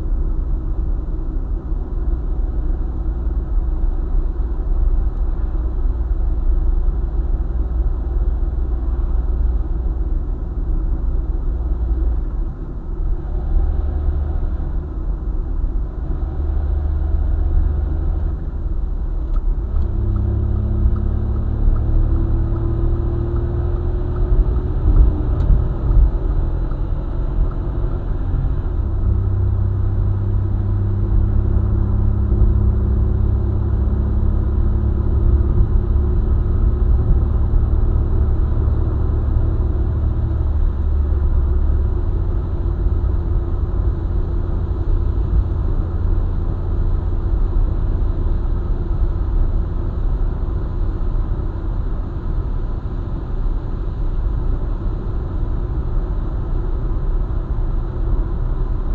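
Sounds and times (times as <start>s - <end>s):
car engine hum: 0.0s - 58.9s
road rumble: 0.0s - 58.9s.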